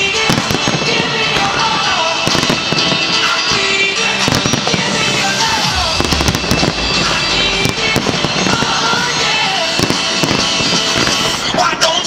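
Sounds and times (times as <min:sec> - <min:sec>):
fireworks bursting and crackling: 0:00.0 - 0:12.0
loud music: 0:00.0 - 0:12.0.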